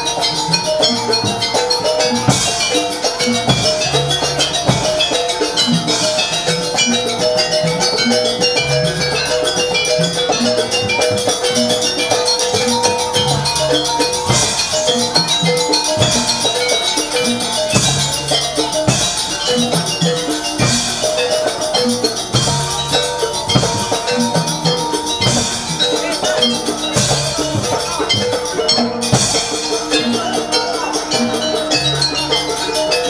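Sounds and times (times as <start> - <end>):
gongs and metallophones melody: 0.0 - 33.0
hand drum strokes: 0.0 - 33.0.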